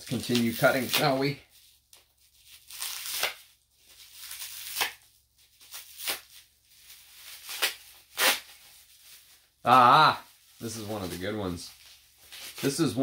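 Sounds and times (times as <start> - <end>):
bubble wrap rustling and crinkling: 0.0 - 13.0.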